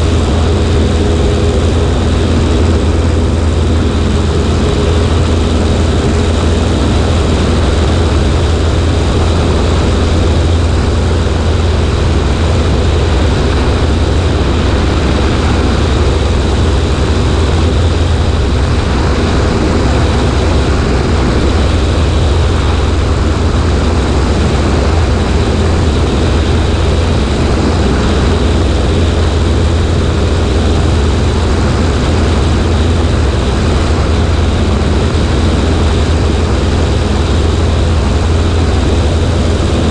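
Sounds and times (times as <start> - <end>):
air rushing over microphone: 0.0 - 39.9
light plane engine and propeller: 0.0 - 39.9.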